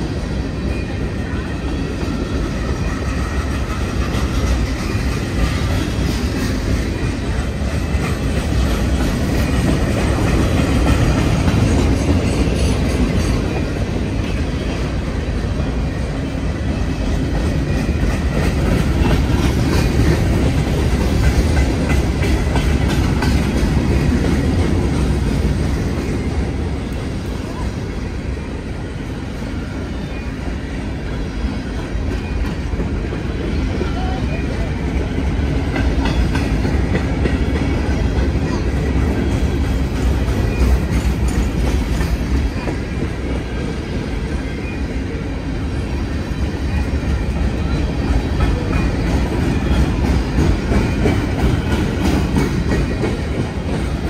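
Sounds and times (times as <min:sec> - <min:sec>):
freight train wheels rumbling on rail: 0:00.0 - 0:54.0.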